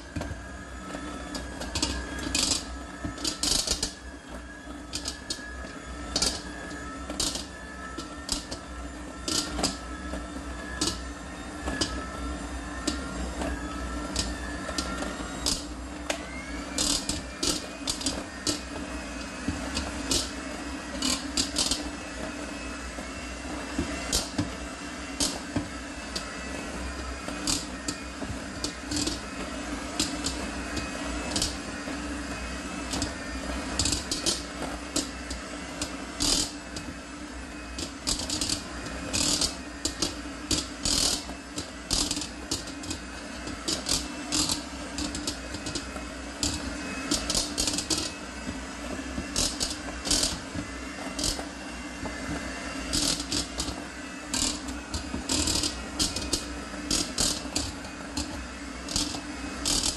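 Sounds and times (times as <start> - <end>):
electric hand mixer running: 0.0 - 59.9.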